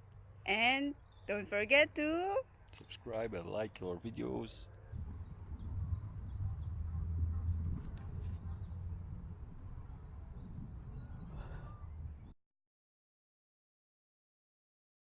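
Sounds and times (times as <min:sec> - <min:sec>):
small birds chirping: 0:00.0 - 0:12.4.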